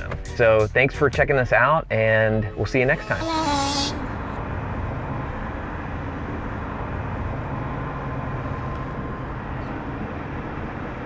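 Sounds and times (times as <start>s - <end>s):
low outdoor rumble: 1.2s - 11.0s.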